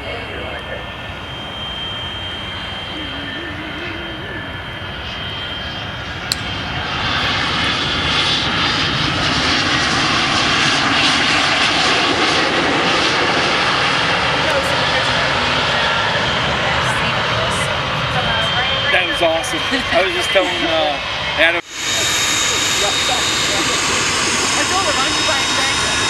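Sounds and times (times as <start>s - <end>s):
airliner engines running: 0.0s - 26.0s.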